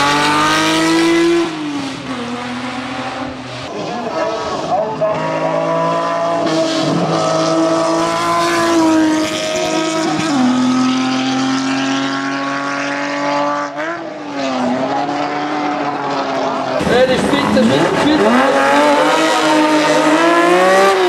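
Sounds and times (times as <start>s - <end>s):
race car engine revving: 0.0s - 21.0s.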